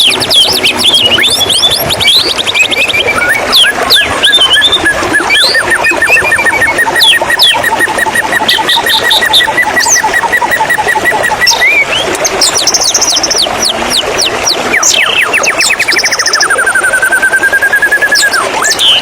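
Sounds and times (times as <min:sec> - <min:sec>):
running water: 0:00.0 - 0:19.0
songbird singing: 0:00.0 - 0:19.0.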